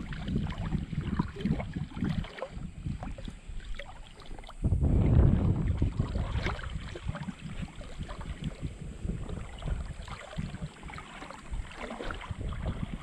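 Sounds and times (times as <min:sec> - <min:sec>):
small ticks and splashes: 0:00.0 - 0:04.7, 0:05.4 - 0:13.0
sea water lapping: 0:00.0 - 0:13.0
wind buffeting microphone: 0:00.0 - 0:13.0.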